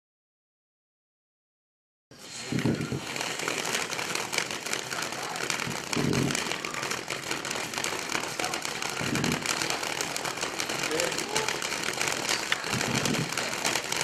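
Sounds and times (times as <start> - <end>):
firework fountain hissing and crackling: 2.2 - 14.0.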